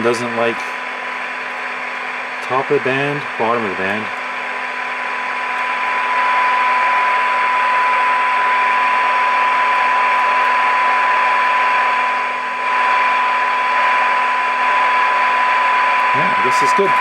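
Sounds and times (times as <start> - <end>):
radio hiss and static: 0.0 - 17.0
test tone from radio speaker: 2.4 - 17.0.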